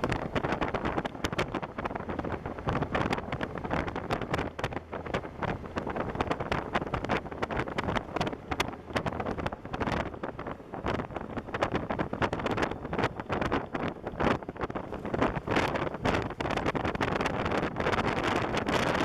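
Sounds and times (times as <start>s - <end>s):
road and engine rumble: 0.0s - 19.0s
wind buffeting microphone: 0.0s - 19.0s.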